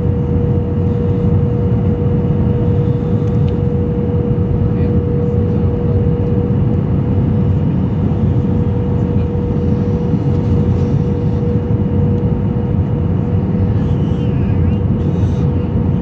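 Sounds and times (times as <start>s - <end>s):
jet engine and airflow roar: 0.0s - 16.0s
steady droning tone: 0.0s - 16.0s.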